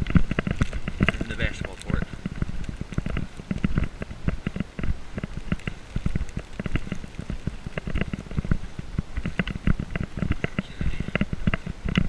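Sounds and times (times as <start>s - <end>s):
footsteps crunching through snow: 0.0s - 12.0s.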